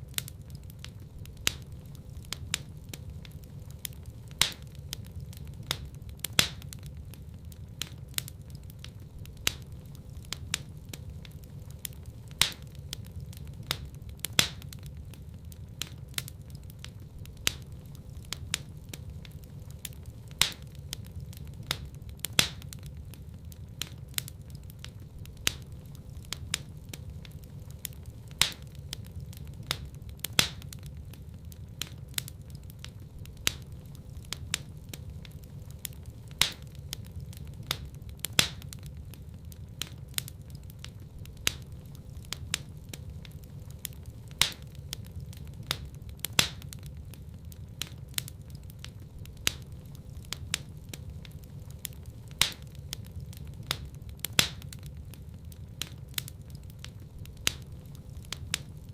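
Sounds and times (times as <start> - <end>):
fire crackling: 0.0 - 58.9
loud pops from fire: 0.0 - 58.9
low rumble of burning: 0.0 - 58.9.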